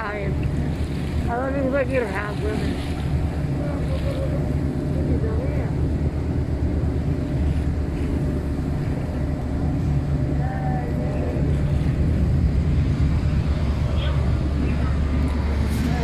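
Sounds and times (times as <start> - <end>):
boat motor running: 0.0 - 16.0
churning river water: 0.0 - 16.0.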